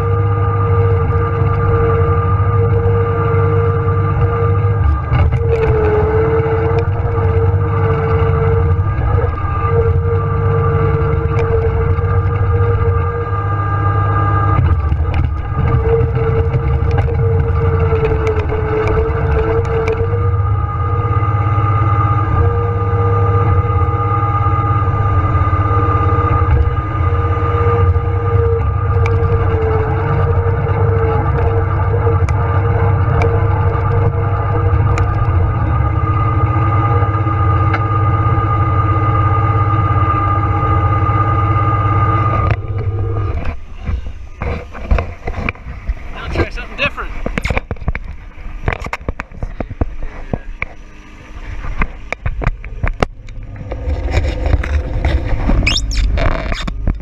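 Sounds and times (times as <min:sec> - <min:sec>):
steady whine: 0:00.0 - 0:57.0
tractor diesel engine running: 0:00.0 - 0:57.0.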